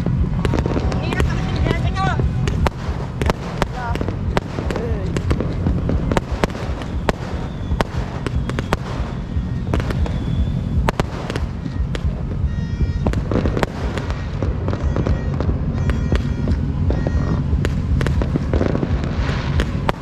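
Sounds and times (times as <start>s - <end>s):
firecrackers cracking: 0.0s - 20.0s
fireworks bursting: 0.0s - 20.0s.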